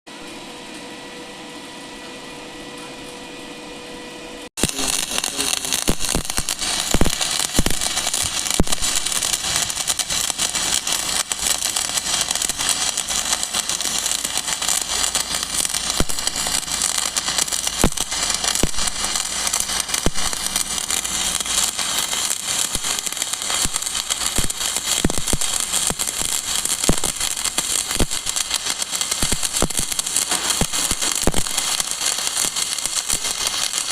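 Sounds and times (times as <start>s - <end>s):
steady hum: 0.1s - 33.9s
sharp welding pops: 4.6s - 33.9s
welding arc crackling: 4.6s - 33.9s.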